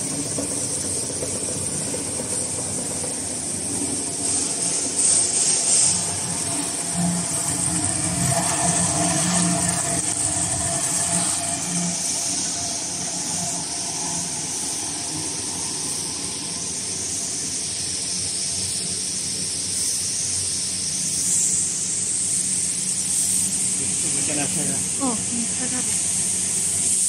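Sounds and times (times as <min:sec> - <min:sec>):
constant high hiss: 0:00.0 - 0:27.0
machinery humming: 0:00.0 - 0:27.0.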